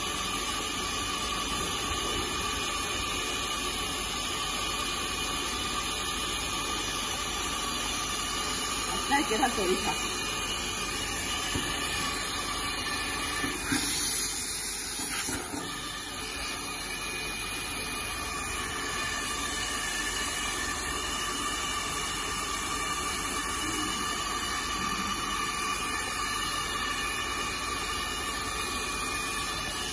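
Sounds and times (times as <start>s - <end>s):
hot-air blower hissing: 0.0s - 29.9s.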